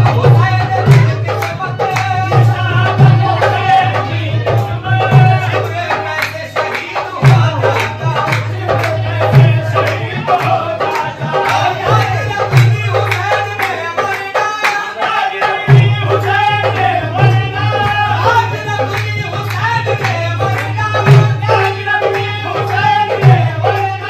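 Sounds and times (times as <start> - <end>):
tabla drumming: 0.0 - 24.0.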